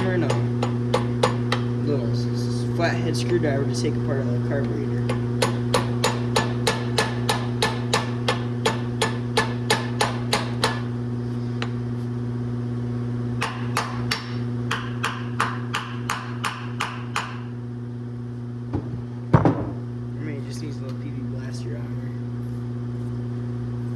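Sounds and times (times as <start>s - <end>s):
steady hum: 0.0s - 23.9s.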